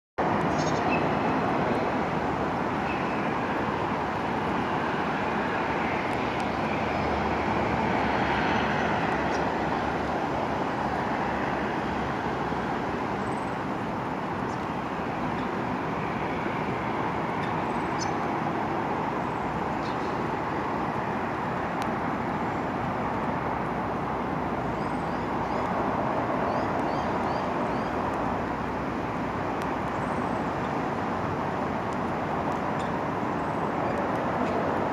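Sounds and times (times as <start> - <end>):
outdoor background noise: 0.2 - 34.9.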